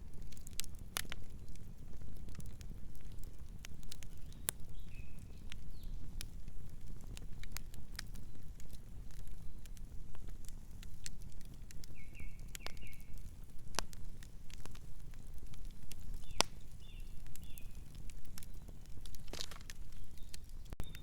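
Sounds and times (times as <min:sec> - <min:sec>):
campfire flames rumbling: 0:00.0 - 0:21.0
wood crackling and popping: 0:00.0 - 0:21.0.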